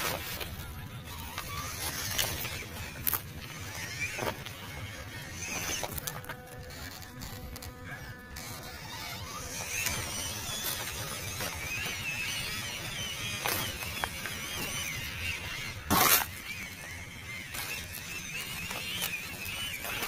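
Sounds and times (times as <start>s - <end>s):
electric motor and gearbox whine: 0.0s - 20.0s.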